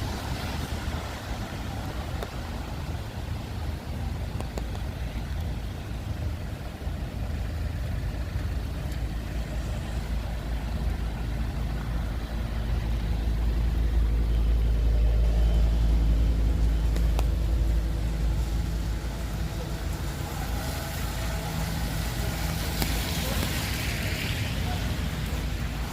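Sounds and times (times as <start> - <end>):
car traffic on rainy street: 0.0 - 25.9.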